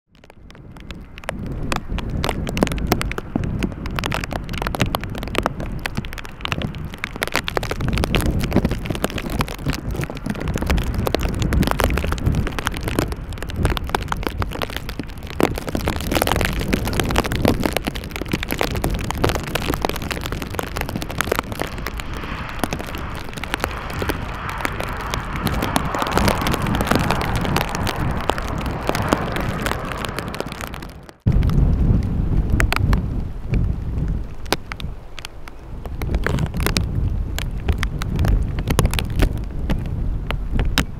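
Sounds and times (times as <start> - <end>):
wind buffeting microphone: 0.2 - 40.9.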